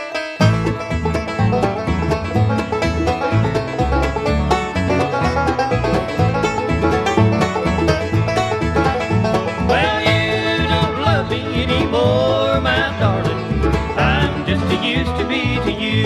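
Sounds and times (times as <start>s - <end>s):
banjo: 0.0s - 16.0s
guitar: 0.0s - 16.0s
sliding lead melody: 0.0s - 16.0s
upright bass pulse: 0.4s - 16.0s.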